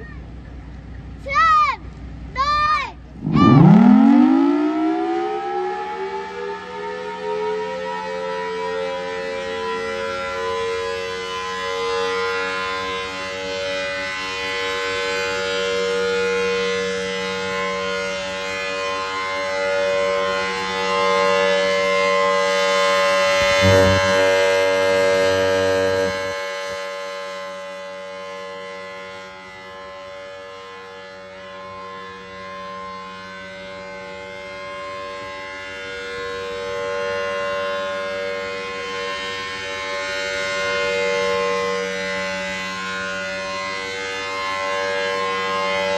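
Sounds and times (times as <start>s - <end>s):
warning siren: 3.1s - 45.9s.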